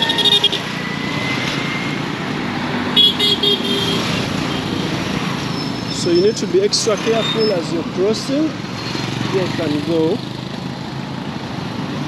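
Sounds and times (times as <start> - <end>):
busy street traffic: 0.0 - 12.0.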